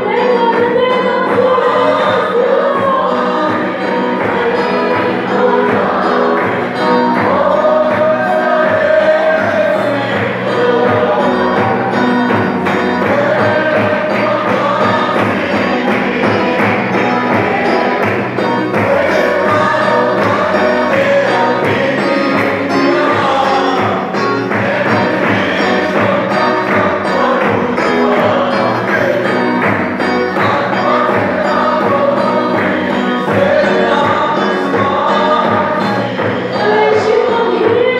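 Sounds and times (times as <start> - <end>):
group of voices singing: 0.0 - 37.9
amplified music with beat and bass: 2.8 - 37.2.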